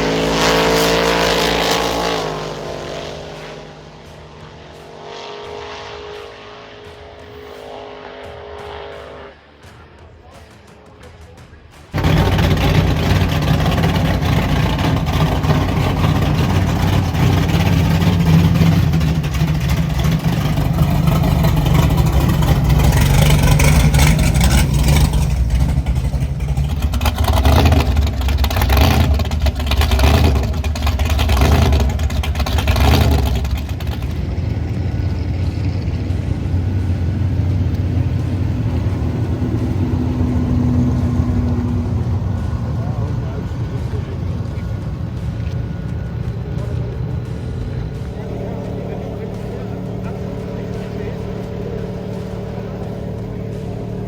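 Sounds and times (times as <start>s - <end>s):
drag racing car engines revving: 0.0s - 54.0s.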